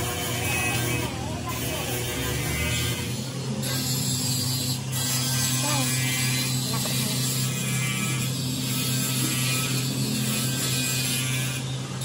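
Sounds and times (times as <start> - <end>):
workshop machinery humming: 0.0 - 12.0.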